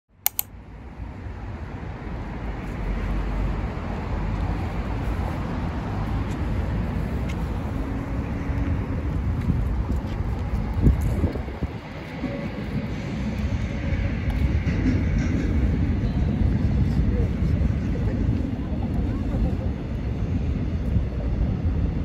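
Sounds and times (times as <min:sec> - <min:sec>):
road traffic rumble: 0:00.3 - 0:22.0.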